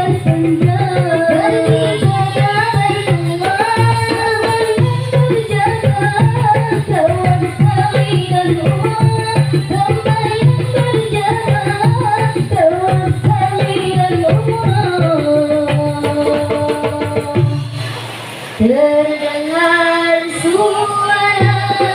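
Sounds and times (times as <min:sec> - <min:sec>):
hand drums fast rhythm: 0:00.0 - 0:18.0, 0:20.4 - 0:21.9
person singing devotional melody: 0:00.0 - 0:18.0, 0:18.6 - 0:21.9.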